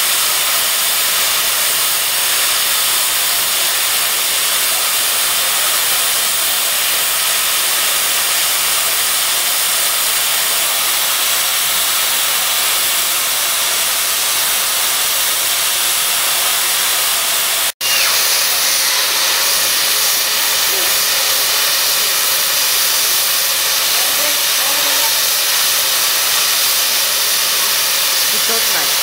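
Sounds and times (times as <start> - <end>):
steam hissing from safety valves: 0.0 - 29.0.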